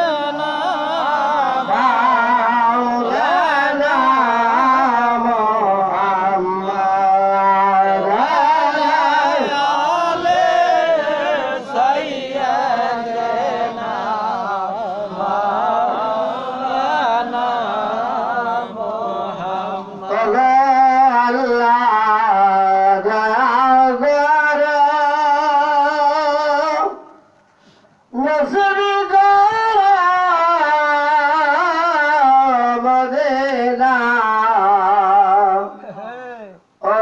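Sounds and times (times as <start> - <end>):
man singing a devotional chant: 0.0 - 27.2, 28.1 - 37.0.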